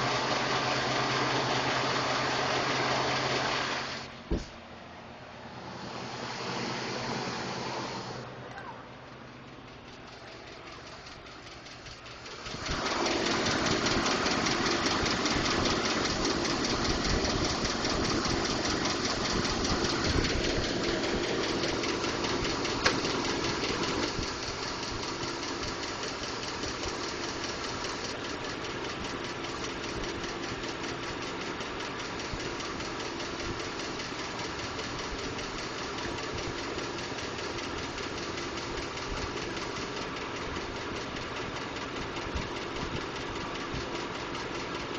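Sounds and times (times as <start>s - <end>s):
engine starting and idling: 0.0s - 8.4s, 9.0s - 44.9s
rapid engine ticking: 0.0s - 44.9s.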